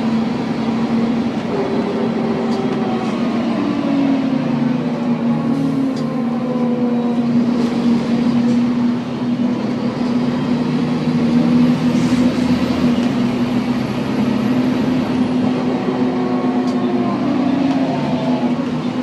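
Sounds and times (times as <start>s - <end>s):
bus driveline whine: 0.0s - 19.0s
road and engine noise: 0.0s - 19.0s.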